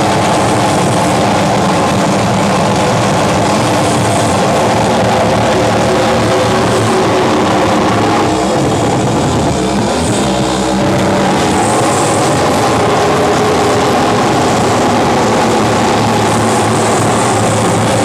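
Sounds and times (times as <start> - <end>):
harsh distorted noise music: 0.0 - 18.0.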